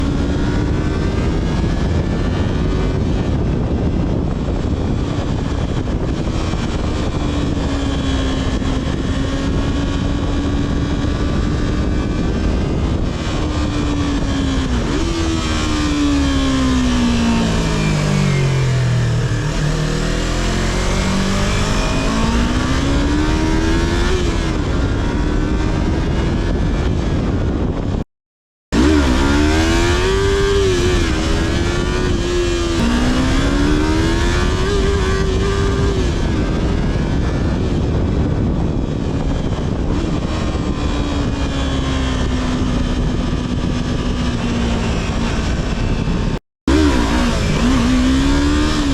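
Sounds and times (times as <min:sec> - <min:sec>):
motorcycle engine revving: 0:00.0 - 0:28.0, 0:28.7 - 0:48.9.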